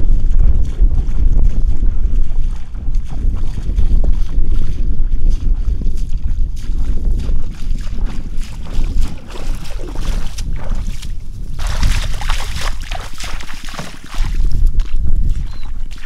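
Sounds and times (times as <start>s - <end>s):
splashing in shallow water: 0.0s - 16.0s
wind rumbling on microphone: 0.0s - 16.0s.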